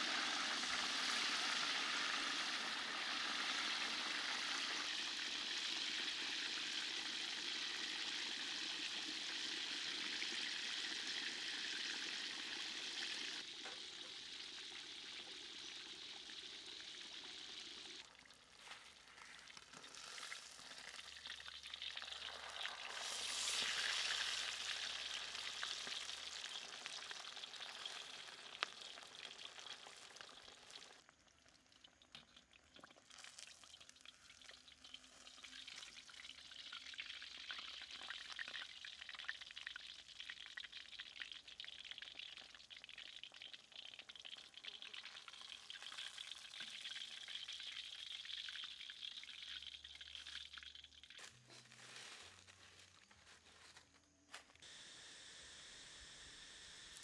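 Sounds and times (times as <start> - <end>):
fish deep-frying in hot oil: 0.0 - 51.5.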